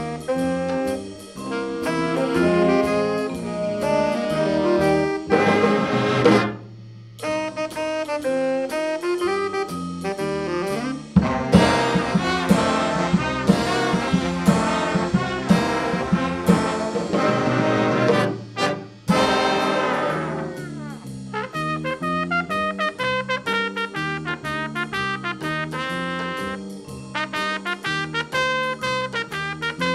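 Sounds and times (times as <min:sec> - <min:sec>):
brass band playing: 0:00.0 - 0:29.9.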